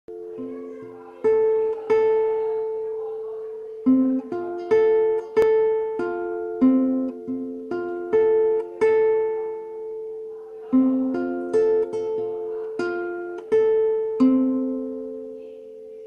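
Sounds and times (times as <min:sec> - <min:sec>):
plucked string instrument melody: 0:00.1 - 0:16.0.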